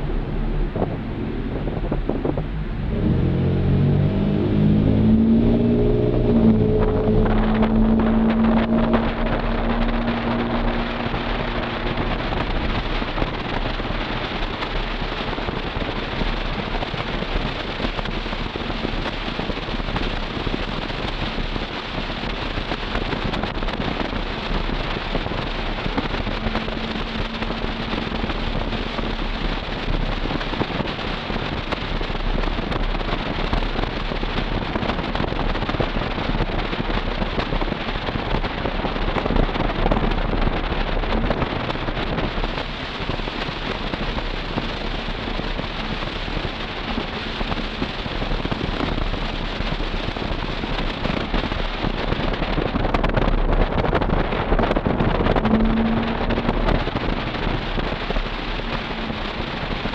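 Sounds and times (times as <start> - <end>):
car exhaust note from inside: 0.0 - 59.9
road and wind noise: 0.0 - 59.9.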